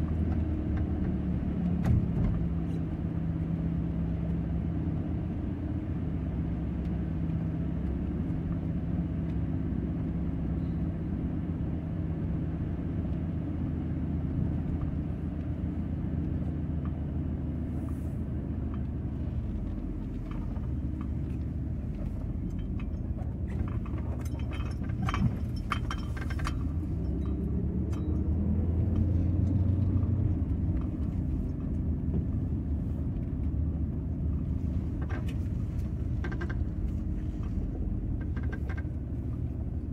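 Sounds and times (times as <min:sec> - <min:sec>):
road rumble: 0:00.0 - 0:39.9
van engine running: 0:00.0 - 0:39.9.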